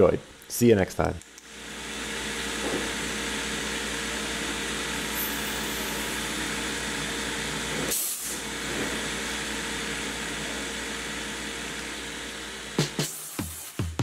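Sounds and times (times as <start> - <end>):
lathe hissing and humming: 1.4 - 13.4.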